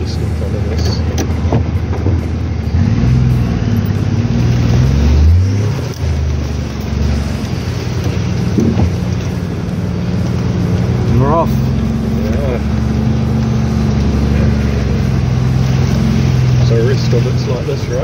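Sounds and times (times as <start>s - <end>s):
vehicle engine under load: 0.0s - 18.0s.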